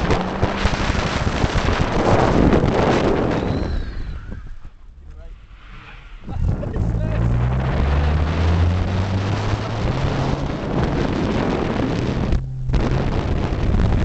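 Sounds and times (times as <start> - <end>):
car engine under load: 0.0 - 3.4, 4.4 - 14.0
wind rushing: 0.0 - 14.0.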